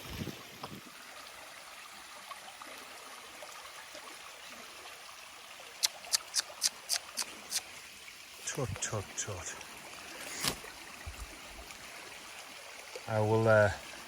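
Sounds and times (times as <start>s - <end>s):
woodland stream trickling: 0.0s - 14.0s.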